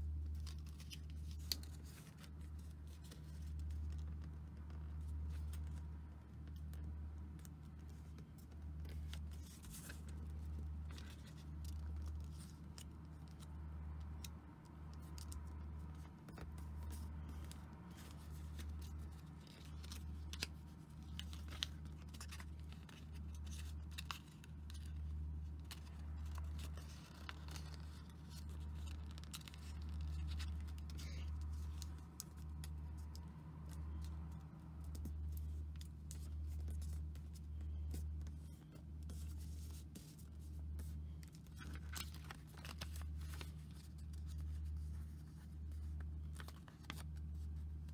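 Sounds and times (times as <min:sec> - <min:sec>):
paper folding and crinkling: 0:00.0 - 0:47.9.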